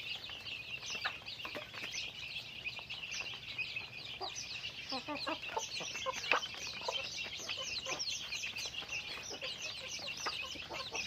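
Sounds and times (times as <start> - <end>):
chickens clucking: 0.0 - 11.0
chorus of high-pitched peeps: 0.0 - 11.0.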